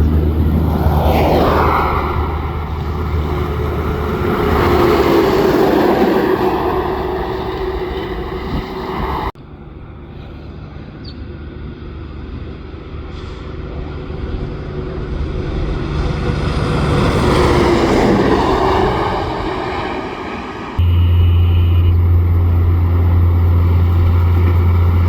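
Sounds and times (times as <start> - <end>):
heavy truck driving past: 0.0 - 25.0.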